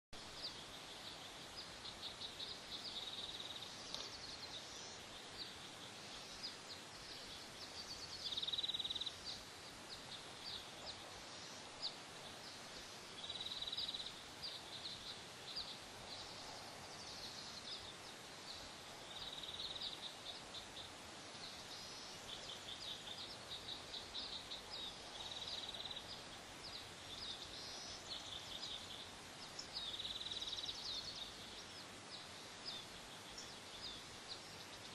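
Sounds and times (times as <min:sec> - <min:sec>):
background hiss: 0:00.2 - 0:34.9.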